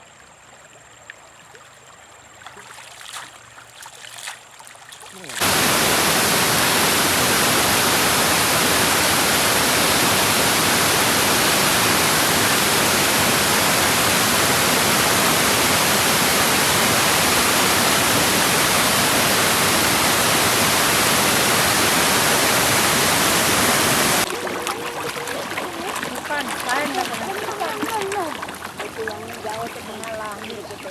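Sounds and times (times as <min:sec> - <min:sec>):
rushing water: 0:02.4 - 0:30.9.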